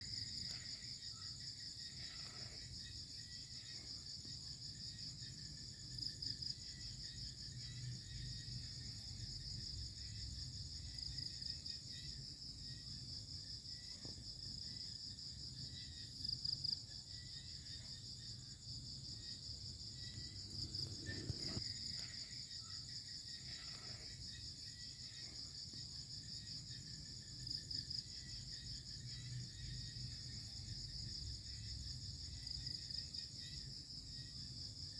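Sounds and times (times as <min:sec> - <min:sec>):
crickets trilling: 0:00.0 - 0:34.9.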